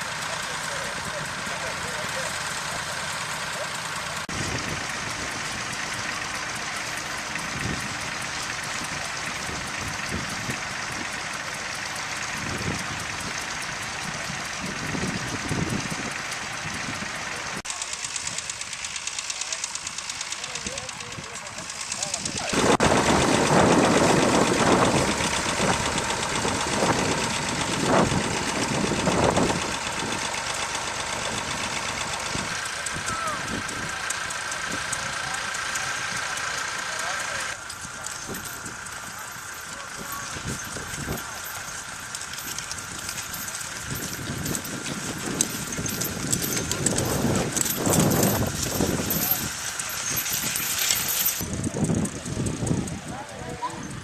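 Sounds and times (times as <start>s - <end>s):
faint regular ticking: 0.0s - 22.6s, 23.4s - 54.0s
tractor engine running: 0.0s - 54.0s.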